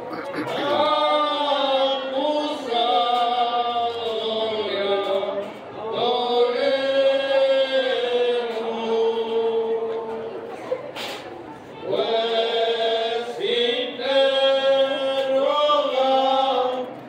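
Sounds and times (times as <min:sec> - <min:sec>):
slow sung hymn: 0:00.1 - 0:10.5, 0:11.8 - 0:17.0.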